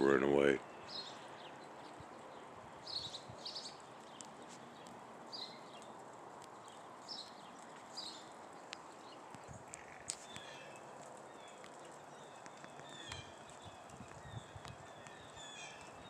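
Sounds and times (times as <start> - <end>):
faint outdoor hiss: 0.0 - 16.0
sparrows chirping: 0.0 - 16.0.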